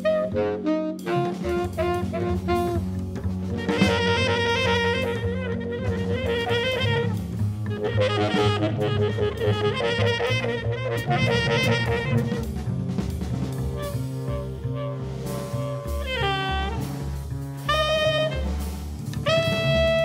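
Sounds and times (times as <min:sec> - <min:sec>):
tenor saxophone runs: 0:00.0 - 0:12.7, 0:13.8 - 0:17.0, 0:17.6 - 0:20.0
jazz drums: 0:00.0 - 0:20.0
walking double bass: 0:00.0 - 0:20.0.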